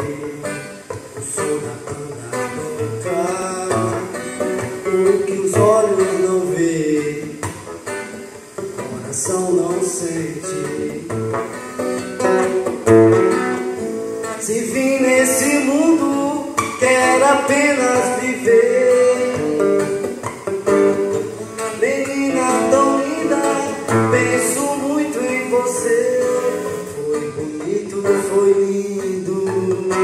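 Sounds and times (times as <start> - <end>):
man singing: 0.0 - 7.7, 8.7 - 11.6, 14.2 - 20.3, 21.0 - 30.0
acoustic guitar strumming: 0.0 - 30.0.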